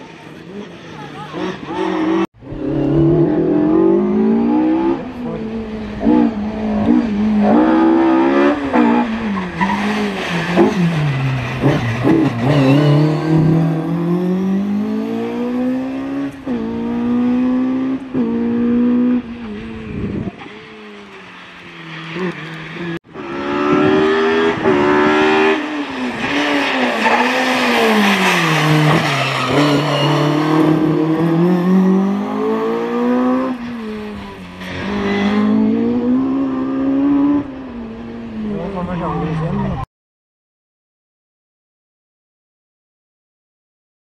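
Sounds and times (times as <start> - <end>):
rally car engine revving: 0.0 - 39.8.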